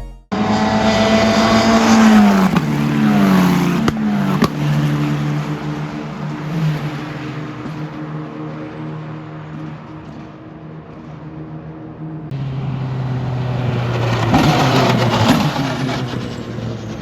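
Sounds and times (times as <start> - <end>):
racing car engines: 0.3 - 17.0
racing car passing by: 0.4 - 17.0.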